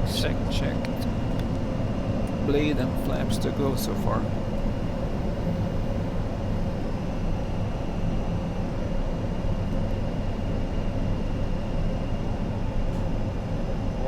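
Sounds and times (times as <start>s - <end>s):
aircraft engine hum: 0.0s - 14.0s.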